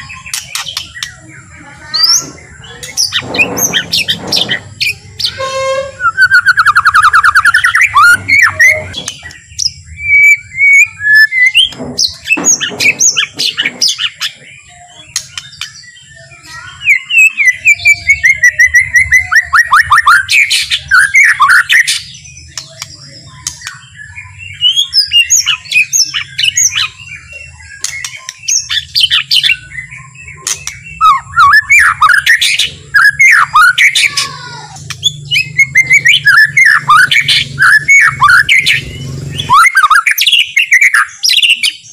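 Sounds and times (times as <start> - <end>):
songbird singing trills and whistles: 0.0 - 41.9.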